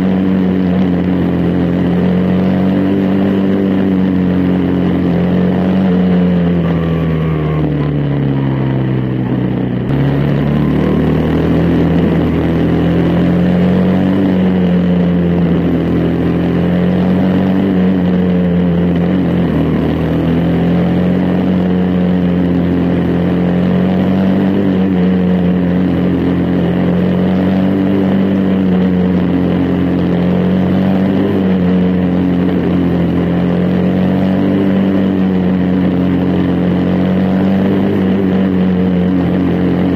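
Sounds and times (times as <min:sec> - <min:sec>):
small racing engine running hard: 0:00.0 - 0:39.9.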